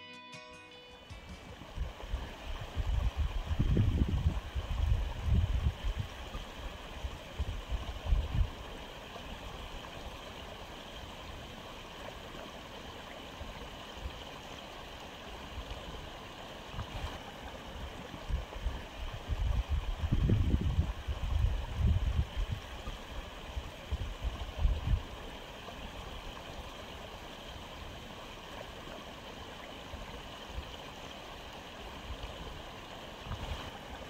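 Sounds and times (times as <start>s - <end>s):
water trickling and gurgling: 1.4s - 34.0s.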